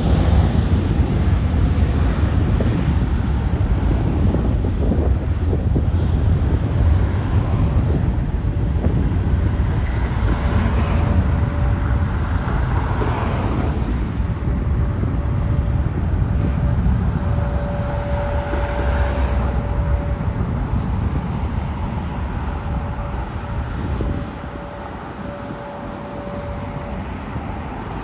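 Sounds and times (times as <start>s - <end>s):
low rumble: 0.0s - 28.0s
wind buffeting microphone: 0.0s - 28.0s.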